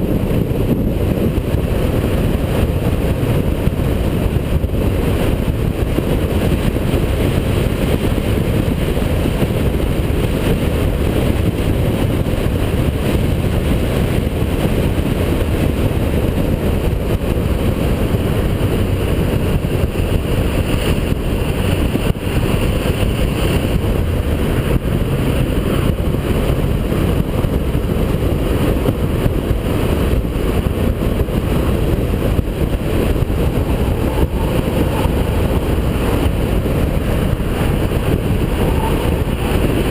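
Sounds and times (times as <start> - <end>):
race car engine: 0.0 - 39.9
road noise: 0.0 - 39.9.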